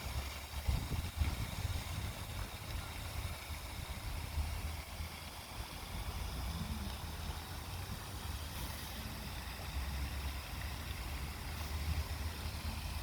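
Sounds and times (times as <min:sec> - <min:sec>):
water noise on a lake: 0:00.0 - 0:13.0
wind: 0:00.0 - 0:13.0.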